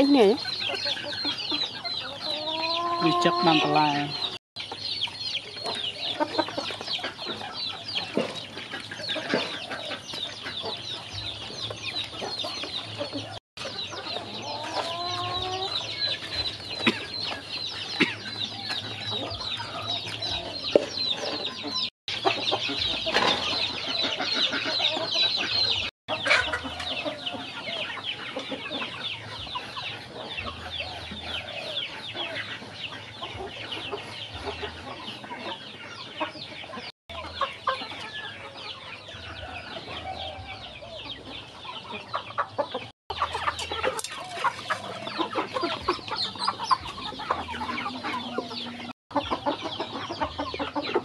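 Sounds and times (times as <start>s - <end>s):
chickens clucking: 0.0s - 51.0s
ducklings peeping: 0.0s - 51.0s.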